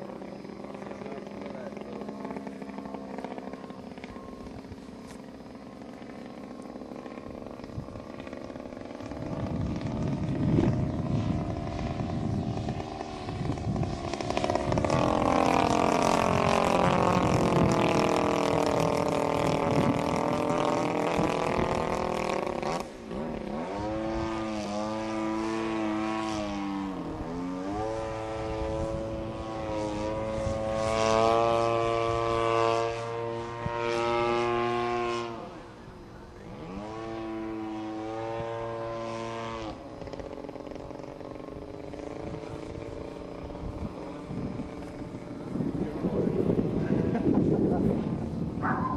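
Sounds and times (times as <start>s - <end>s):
airplane engine droning: 0.0s - 48.9s.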